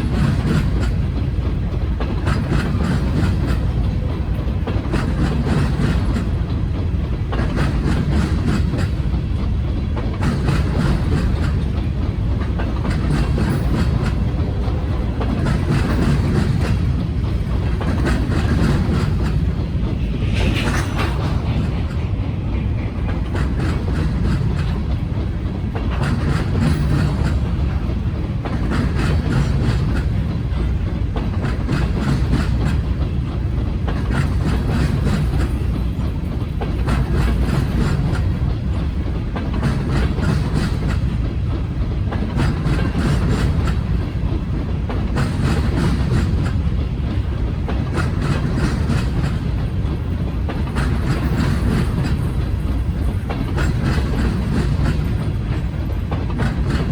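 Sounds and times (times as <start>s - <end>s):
freight train cars rumbling: 0.0s - 56.9s.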